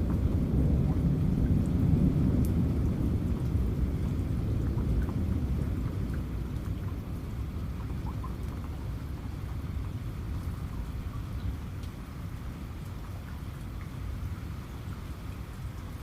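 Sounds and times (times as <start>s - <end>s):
rain falling: 0.0s - 16.0s
water drips: 0.0s - 16.0s.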